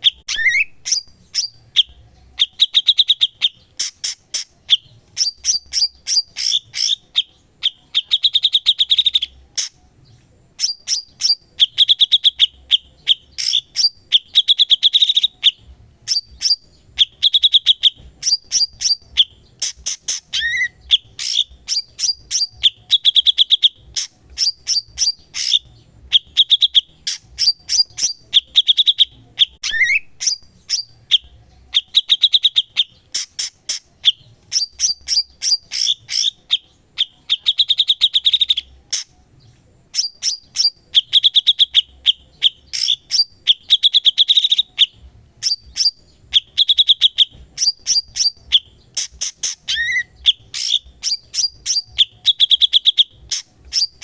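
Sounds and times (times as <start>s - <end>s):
slurred bird whistle: 0.0s - 9.8s, 10.6s - 39.2s, 39.9s - 54.0s
songbird chattering song: 0.0s - 54.0s.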